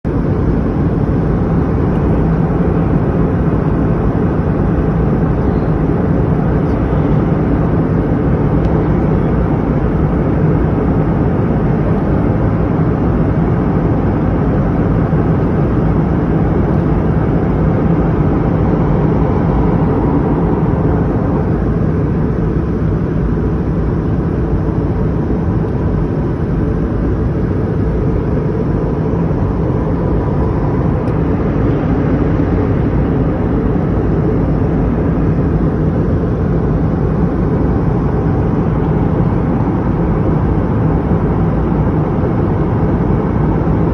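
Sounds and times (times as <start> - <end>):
airliner cabin engine drone: 0.0 - 43.9.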